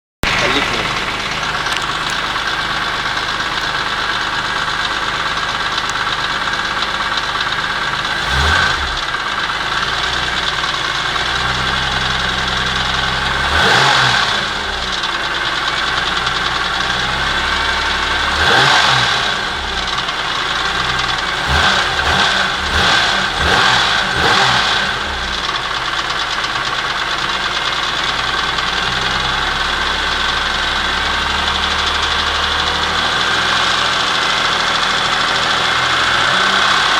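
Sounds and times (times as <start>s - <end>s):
engine revving: 0.2s - 4.7s, 7.5s - 36.9s
car engine idling with a rattle: 0.2s - 36.9s.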